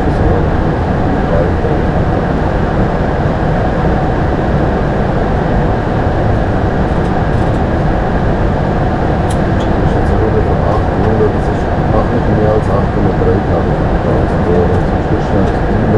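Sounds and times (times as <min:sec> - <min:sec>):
aircraft cockpit engine noise: 0:00.0 - 0:15.9.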